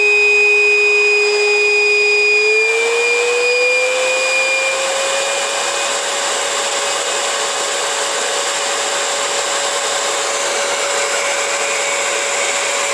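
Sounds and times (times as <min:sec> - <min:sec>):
dog dryer air rushing: 0:00.0 - 0:12.9
motor whine: 0:00.0 - 0:12.9.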